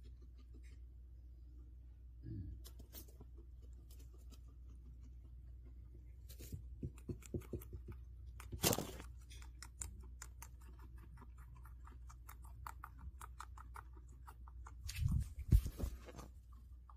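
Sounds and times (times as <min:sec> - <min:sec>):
guinea pig chewing: 0:00.0 - 0:16.9.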